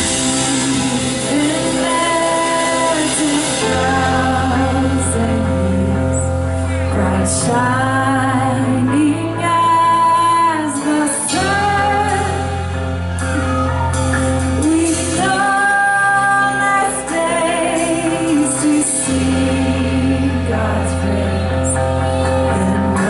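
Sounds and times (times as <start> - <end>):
worship band music: 0.0 - 23.0.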